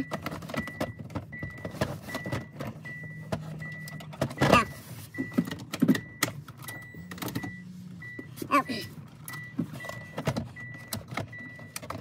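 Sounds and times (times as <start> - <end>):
car warning chime beeping: 0.0 - 12.0.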